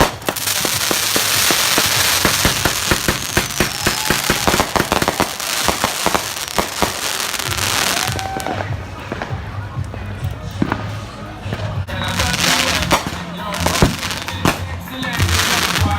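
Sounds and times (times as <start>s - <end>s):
firecrackers popping and crackling: 0.0s - 15.9s.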